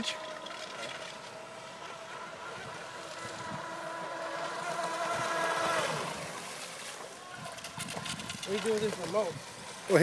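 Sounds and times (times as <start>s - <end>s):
model boat motor whining: 0.0s - 10.0s.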